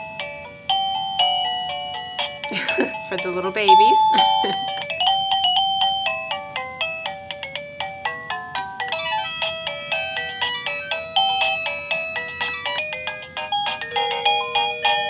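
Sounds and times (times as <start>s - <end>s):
doorbell chime tune: 0.0s - 15.0s.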